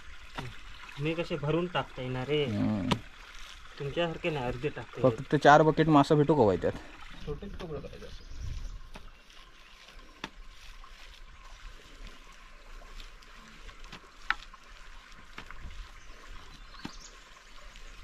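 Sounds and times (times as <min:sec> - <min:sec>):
hands kneading wet mud: 0:00.0 - 0:18.0
stream trickling over rocks: 0:00.0 - 0:18.0.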